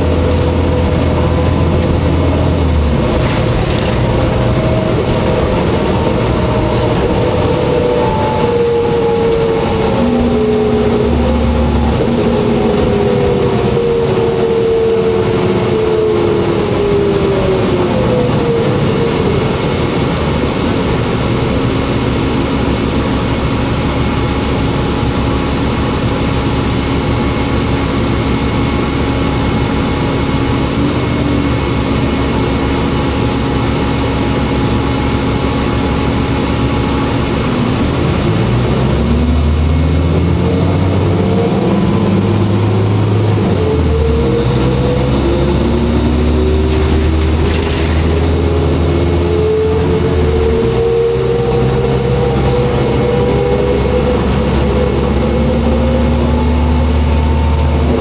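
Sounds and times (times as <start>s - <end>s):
bus cabin diesel hum: 0.0s - 58.0s
transmission whine falling in pitch: 0.0s - 58.0s.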